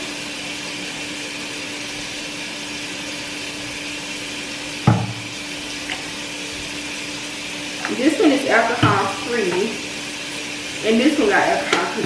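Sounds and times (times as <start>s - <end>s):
motor-like hum with hiss: 0.0s - 12.0s.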